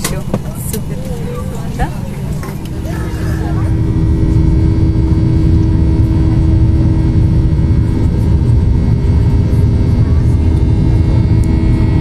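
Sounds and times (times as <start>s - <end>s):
airliner cabin rumble: 0.0s - 12.0s
steady hum: 0.0s - 12.0s.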